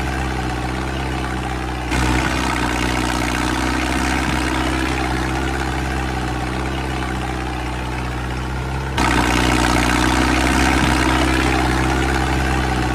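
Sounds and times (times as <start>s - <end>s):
mini tractor engine droning: 0.0s - 12.9s.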